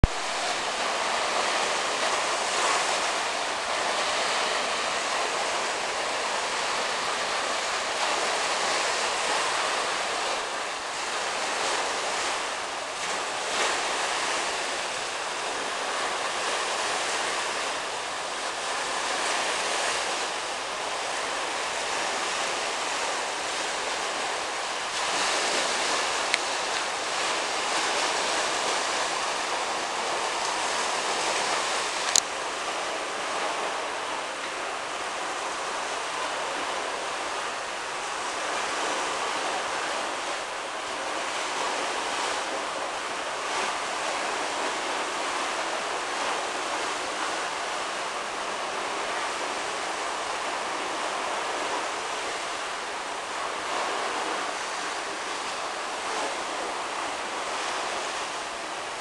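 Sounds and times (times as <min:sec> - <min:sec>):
surf washing onto beach: 0:00.0 - 0:59.0.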